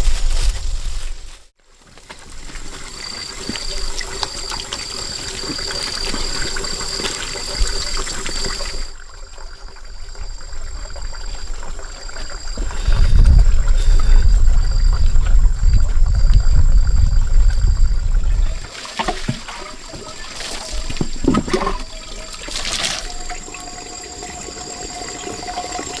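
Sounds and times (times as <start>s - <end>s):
stream water trickling: 2.4s - 26.0s.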